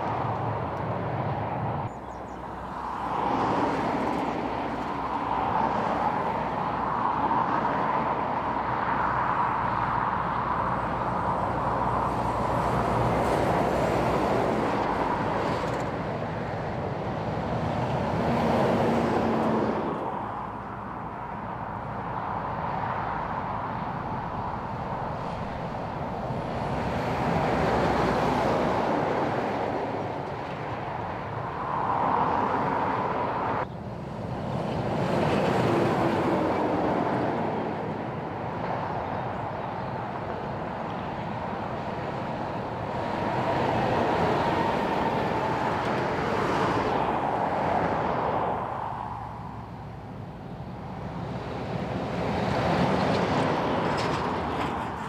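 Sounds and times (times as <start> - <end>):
heavy trucks passing: 0.0 - 55.0.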